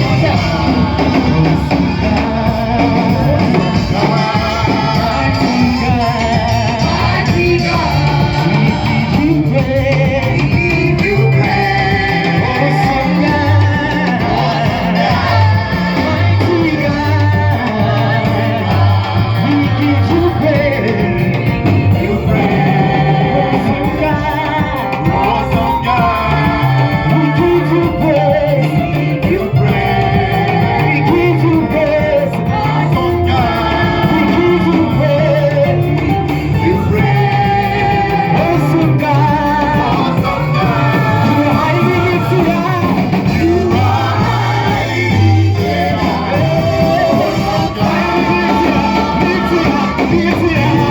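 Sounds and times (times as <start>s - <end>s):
church praise music with singing: 0.0s - 50.9s.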